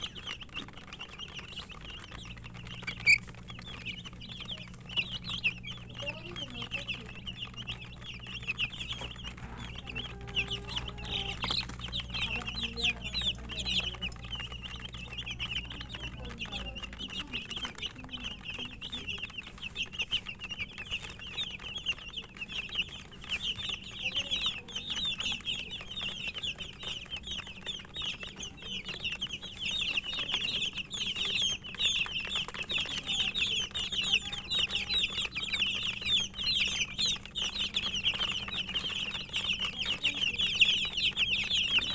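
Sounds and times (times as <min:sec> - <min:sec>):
chicks peeping: 0:00.0 - 0:41.9
steady low hum: 0:00.9 - 0:41.9.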